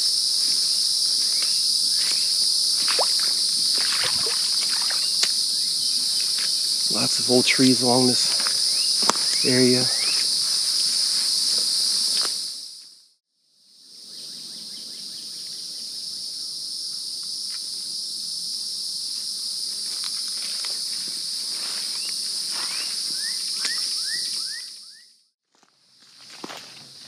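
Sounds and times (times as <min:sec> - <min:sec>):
insects buzzing drone: 0:00.0 - 0:25.0.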